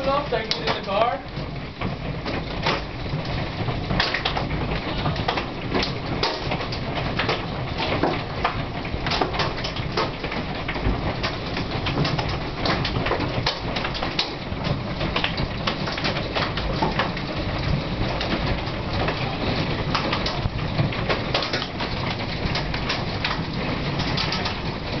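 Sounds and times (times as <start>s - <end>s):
hailstones ticking on window glass: 0.0s - 25.0s.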